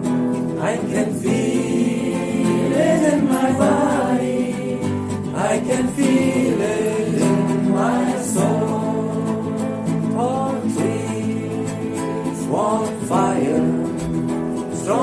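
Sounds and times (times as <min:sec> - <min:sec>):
guitar accompaniment: 0:00.0 - 0:15.0
group singing a chant: 0:00.5 - 0:15.0.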